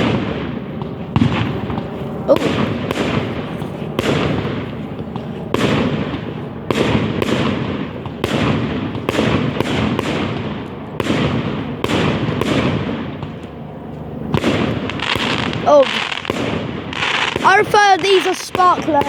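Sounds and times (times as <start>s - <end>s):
fireworks bangs echoing: 0.0s - 19.0s.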